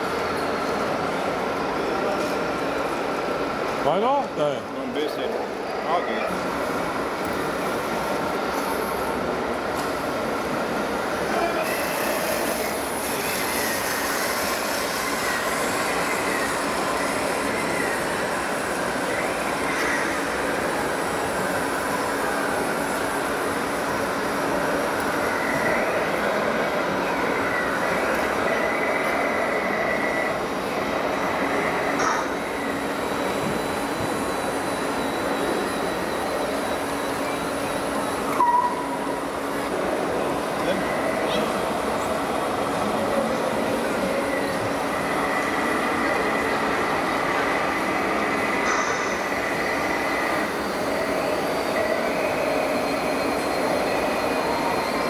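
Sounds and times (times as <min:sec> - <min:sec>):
constant hall hum: 0:00.0 - 0:55.0.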